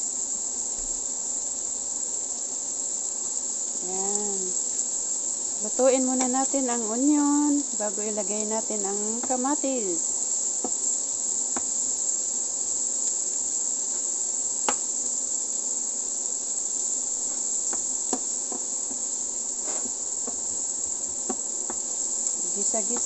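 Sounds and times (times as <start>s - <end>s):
onion sizzling in a frying pan: 0.0s - 23.0s.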